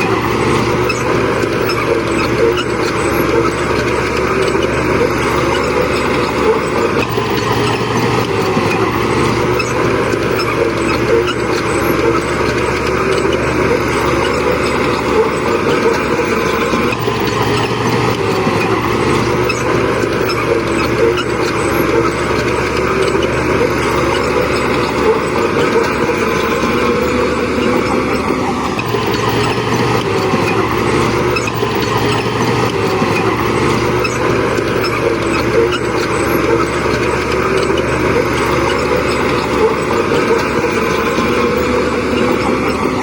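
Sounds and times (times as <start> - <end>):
bulldozer diesel engines: 0.0 - 43.0.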